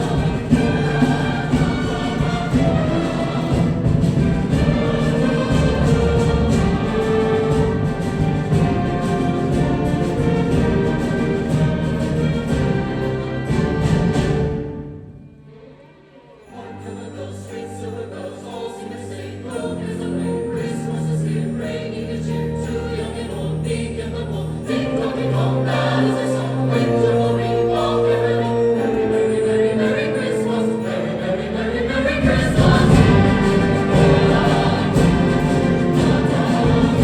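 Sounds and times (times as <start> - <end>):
choir singing: 0.0 - 37.0
instrumental accompaniment: 0.0 - 37.0.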